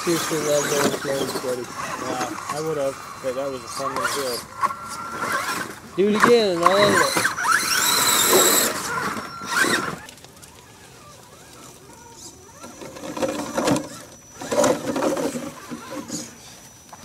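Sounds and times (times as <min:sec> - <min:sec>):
small electric motors whirring: 0:00.0 - 0:17.0.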